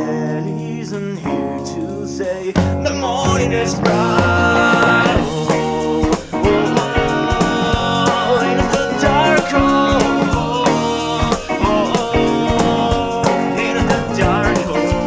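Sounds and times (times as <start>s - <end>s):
electric guitars: 0.0s - 15.0s
steady drum beat: 2.5s - 15.0s.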